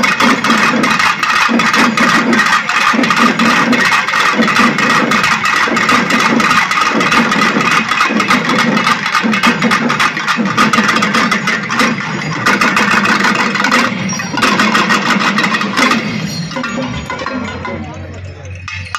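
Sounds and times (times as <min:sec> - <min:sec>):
drum ensemble playing: 0:00.0 - 0:18.9.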